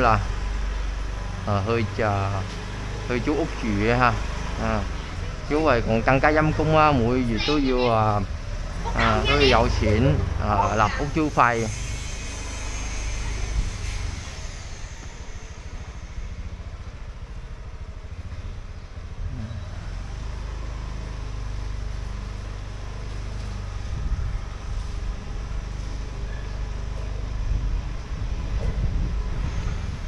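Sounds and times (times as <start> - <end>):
motorbike and car engines passing: 0.0 - 30.0.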